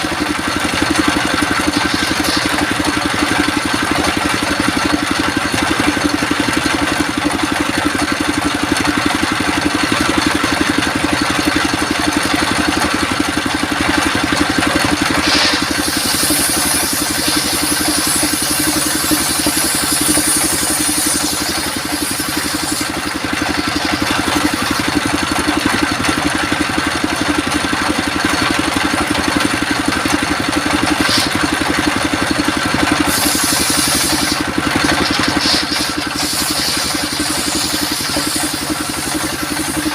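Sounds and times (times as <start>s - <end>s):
saw blade cutting wood: 0.0s - 39.9s
sawmill running: 0.0s - 39.9s.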